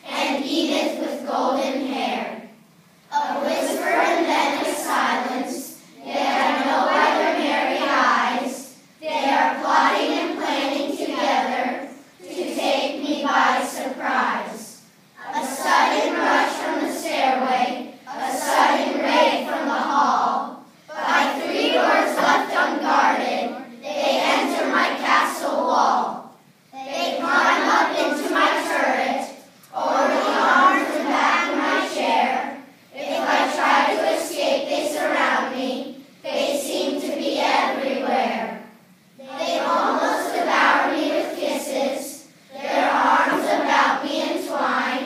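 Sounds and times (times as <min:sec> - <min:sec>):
children reciting in unison: 0:00.0 - 0:45.0.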